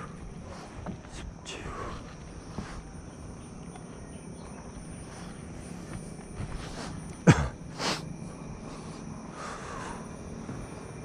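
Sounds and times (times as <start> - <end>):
forest insects: 0.0 - 11.0.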